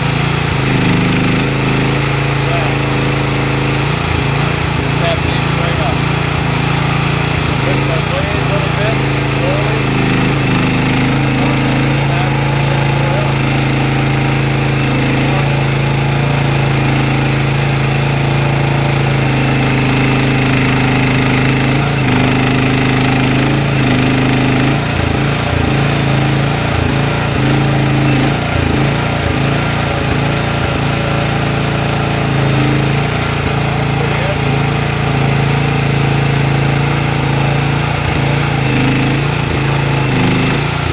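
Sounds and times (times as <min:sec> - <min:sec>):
excavator engine running: 0:00.0 - 0:40.9.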